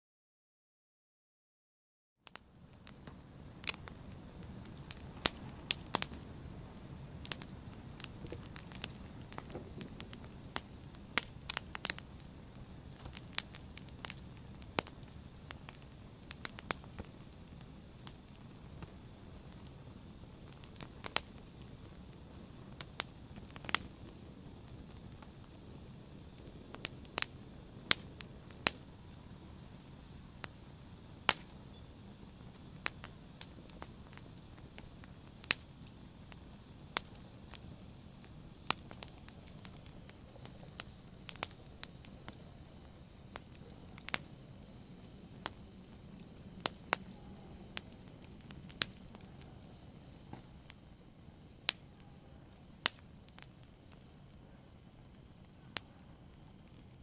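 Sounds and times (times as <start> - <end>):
logs crackling and popping: 2.2 - 51.9, 52.5 - 57.0
flames hissing and rumbling: 2.2 - 57.0.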